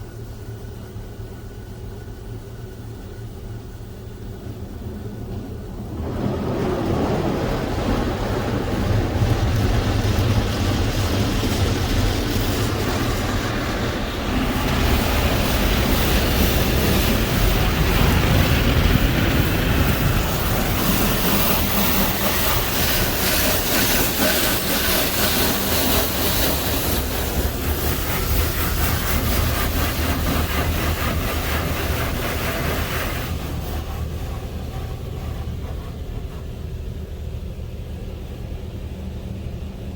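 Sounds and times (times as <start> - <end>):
car wash rushing noise: 0.0 - 39.9
low rumble: 1.9 - 39.9.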